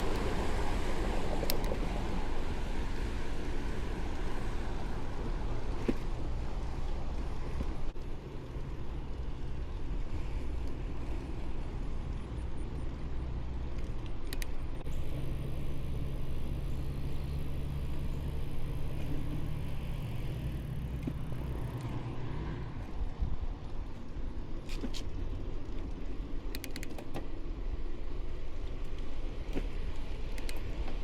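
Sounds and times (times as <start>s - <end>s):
motor vehicle hum with road noise: 0.0s - 31.0s.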